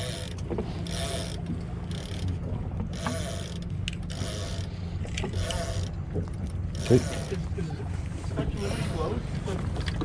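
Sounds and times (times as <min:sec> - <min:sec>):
outboard motor droning: 0:00.0 - 0:10.0
water washing against hull: 0:00.0 - 0:10.0.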